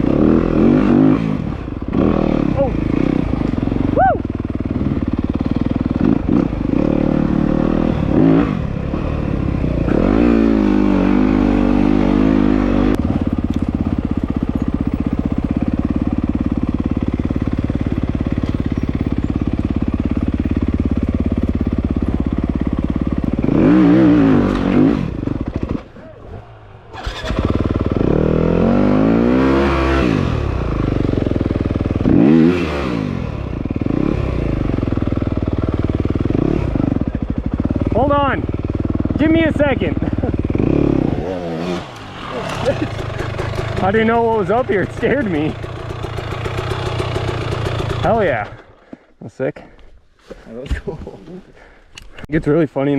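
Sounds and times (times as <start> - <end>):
dirt bike engine revving: 0.0 - 48.7.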